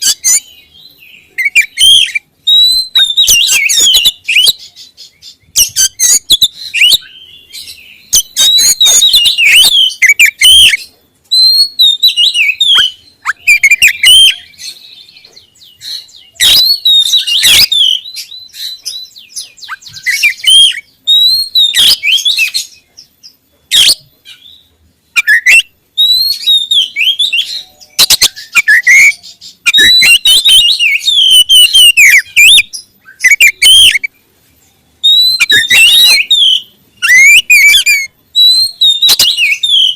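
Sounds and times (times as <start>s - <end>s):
bird singing whistled phrases: 0.0s - 22.9s, 23.7s - 34.1s, 35.0s - 39.9s.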